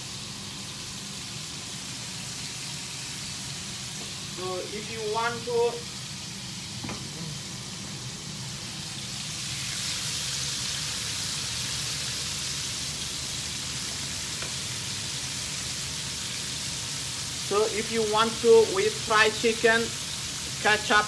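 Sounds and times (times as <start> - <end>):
chicken deep-frying in oil: 0.0 - 21.0.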